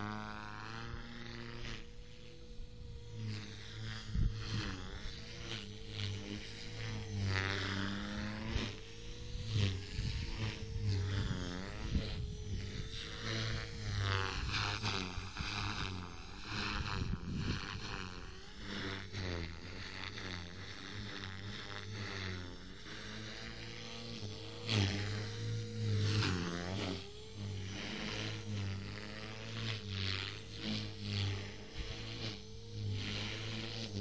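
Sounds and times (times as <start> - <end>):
rc helicopter rotor whine: 0.0 - 34.0.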